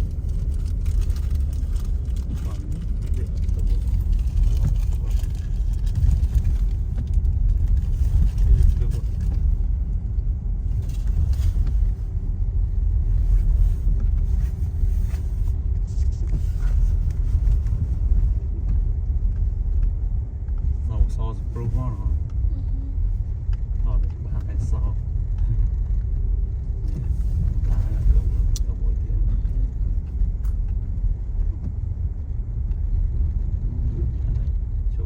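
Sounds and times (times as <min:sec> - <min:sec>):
car cabin engine and tyre rumble: 0:00.0 - 0:35.0.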